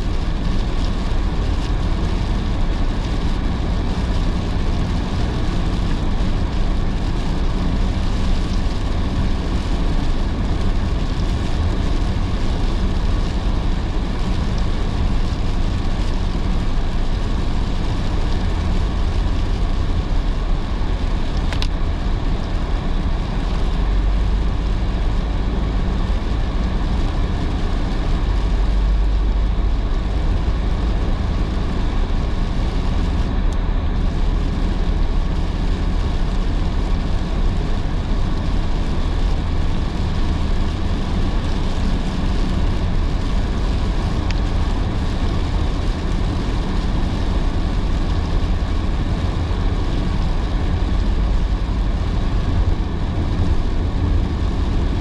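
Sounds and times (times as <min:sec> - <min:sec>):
low rumble of engine and tyres: 0:00.0 - 0:55.0
rain: 0:00.0 - 0:55.0.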